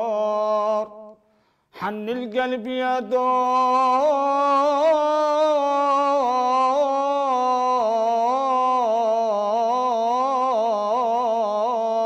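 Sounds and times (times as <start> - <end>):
man singing unaccompanied: 0.0 - 1.2, 1.8 - 12.0.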